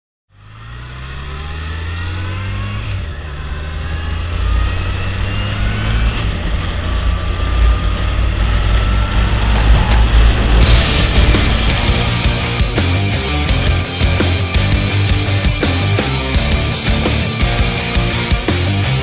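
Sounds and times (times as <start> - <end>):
motorcycle engine accelerating: 0.3 - 19.0.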